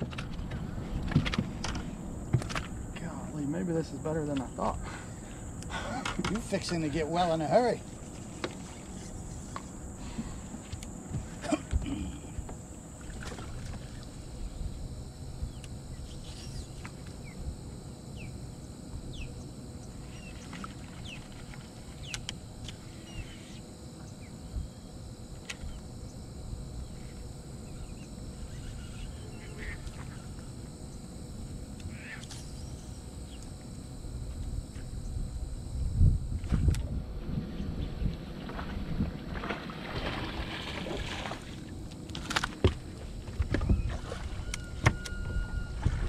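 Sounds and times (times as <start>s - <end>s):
wind and water against hull: 0.0s - 46.0s.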